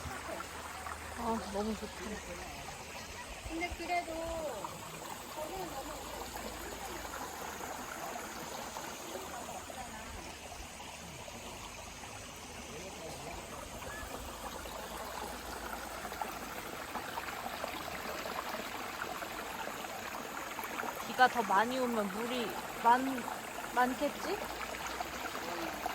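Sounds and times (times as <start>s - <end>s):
stream babbling over rocks: 0.0s - 25.9s.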